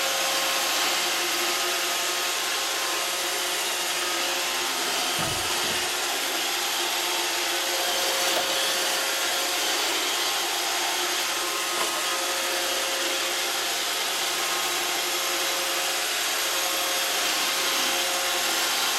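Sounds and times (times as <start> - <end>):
robot vacuum whirring: 0.4 - 18.9.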